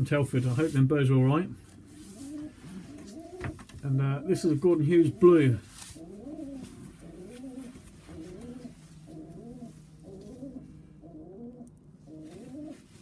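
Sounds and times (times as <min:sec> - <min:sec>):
pigeons cooing: 0:01.8 - 0:13.0.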